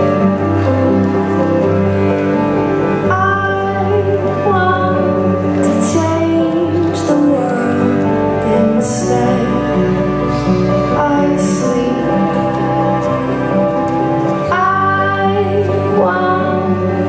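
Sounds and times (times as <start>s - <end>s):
soft sustained accompaniment: 0.0s - 17.0s
woman singing: 3.1s - 17.0s.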